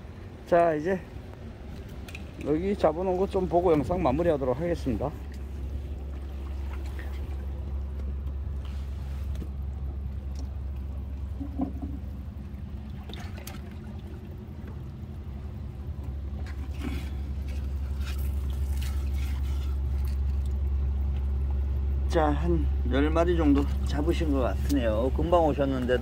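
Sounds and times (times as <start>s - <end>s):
low steady rumble: 0.0s - 26.0s
water sloshing and dripping: 1.1s - 26.0s
small splashes and knocks: 1.7s - 15.0s, 15.8s - 21.7s, 23.4s - 26.0s.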